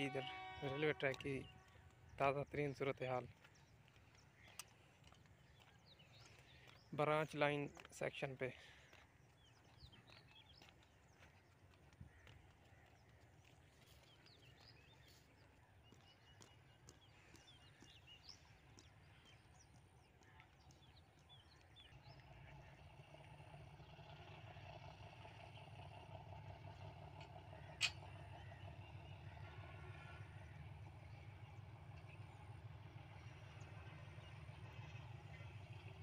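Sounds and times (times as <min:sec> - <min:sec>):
birds chirping: 0:00.0 - 0:36.0
diesel locomotive rumble: 0:00.0 - 0:36.0.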